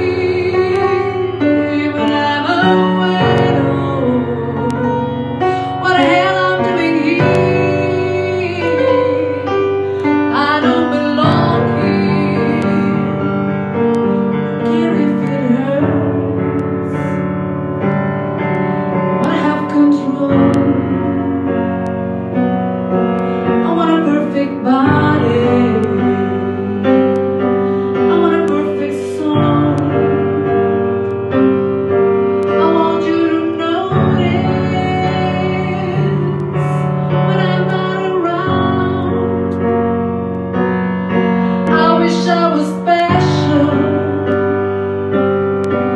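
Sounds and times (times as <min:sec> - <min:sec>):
woman singing: 0:00.0 - 0:17.2, 0:19.0 - 0:21.9, 0:23.2 - 0:30.9, 0:32.4 - 0:39.8, 0:41.4 - 0:45.1
piano accompaniment: 0:00.0 - 0:45.9.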